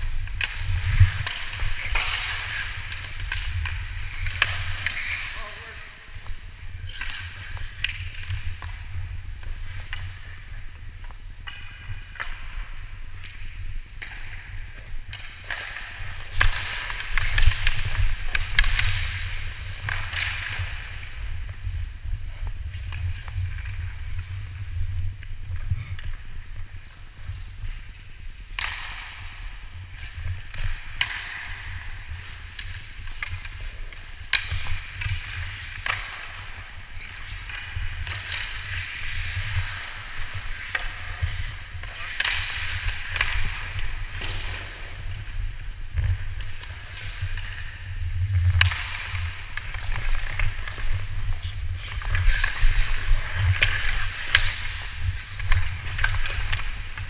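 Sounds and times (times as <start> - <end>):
hockey sticks and puck clacking: 0.0 - 57.0
skate blades scraping ice: 0.0 - 57.0.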